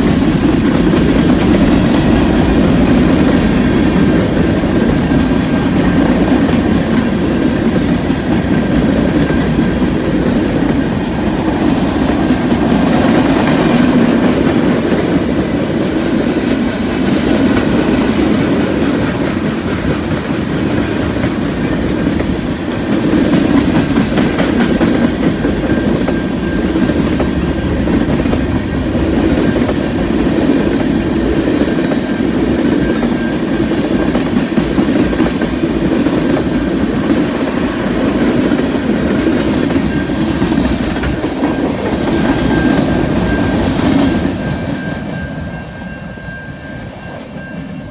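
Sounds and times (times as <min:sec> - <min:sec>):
freight train wheels rolling on rails: 0:00.0 - 0:47.9.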